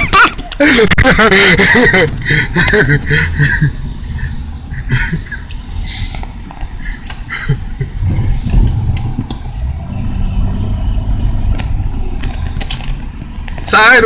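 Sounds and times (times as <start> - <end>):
car engine pulling: 0.0 - 14.0
tyres rumbling through snow: 0.6 - 14.0.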